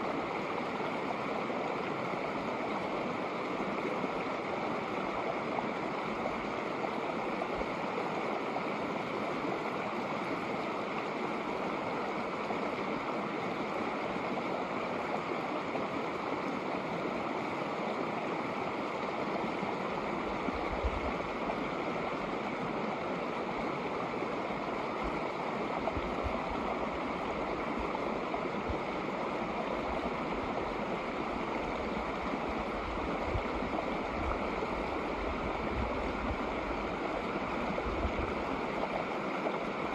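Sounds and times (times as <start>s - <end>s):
creek rippling over rocks: 0.0s - 39.9s.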